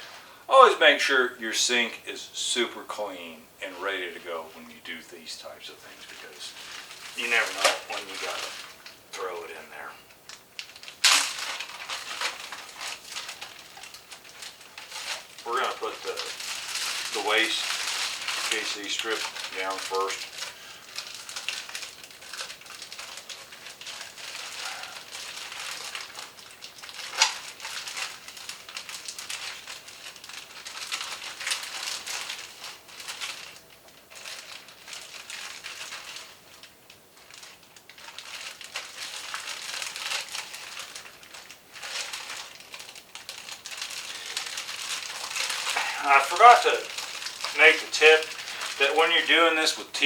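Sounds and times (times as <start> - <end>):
plastic bag crinkling: 3.2 - 50.0.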